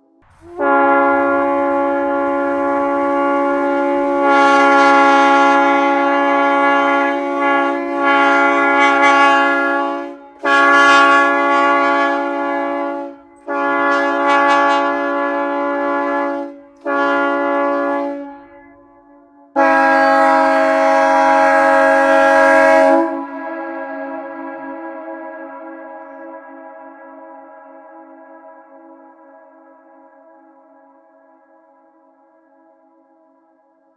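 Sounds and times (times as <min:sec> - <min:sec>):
train horn blasts: 0:00.0 - 0:31.6.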